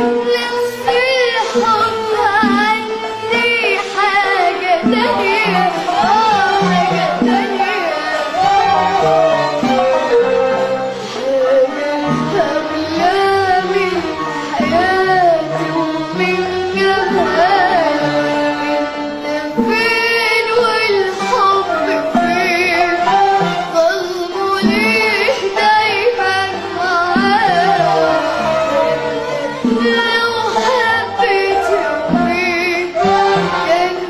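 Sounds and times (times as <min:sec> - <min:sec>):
band accompaniment: 0:00.0 - 0:34.0.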